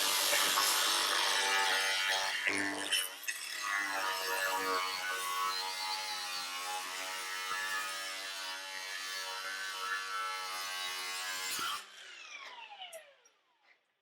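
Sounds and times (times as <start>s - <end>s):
power tool cutting sheet metal: 0.0s - 13.2s.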